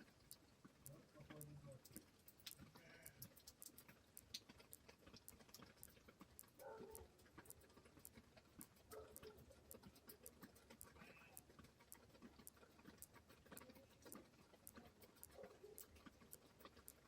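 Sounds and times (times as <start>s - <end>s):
raindrops tapping: 0.0s - 17.0s.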